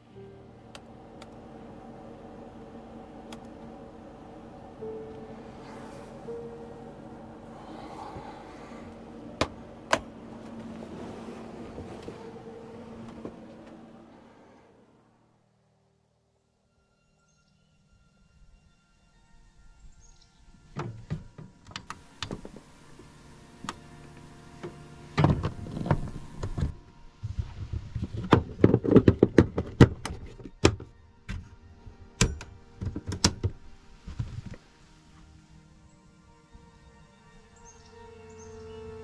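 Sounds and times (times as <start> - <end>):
quiet background music: 0.0 - 39.0.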